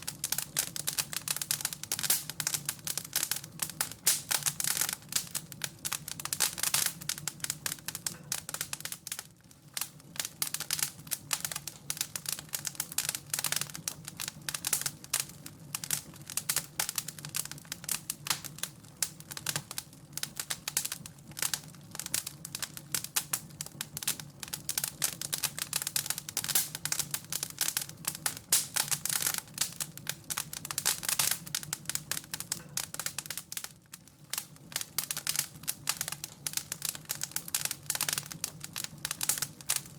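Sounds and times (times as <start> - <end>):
low roar of flames: 0.0 - 39.9
wood fire crackling and popping: 0.0 - 39.9.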